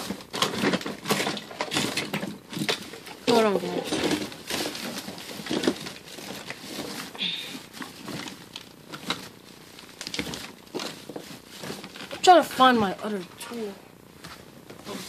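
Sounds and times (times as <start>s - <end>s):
objects handled knocks and rustles: 0.0s - 13.3s.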